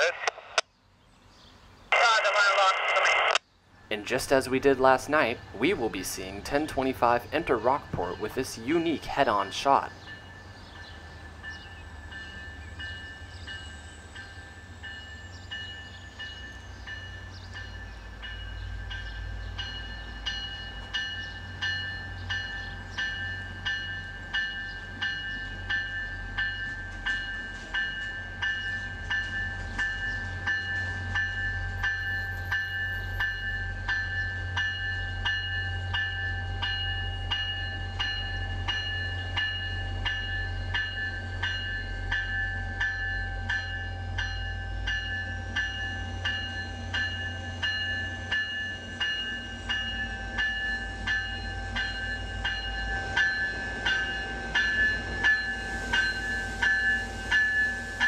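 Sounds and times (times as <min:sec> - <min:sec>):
train bell ringing: 0:03.7 - 0:58.0.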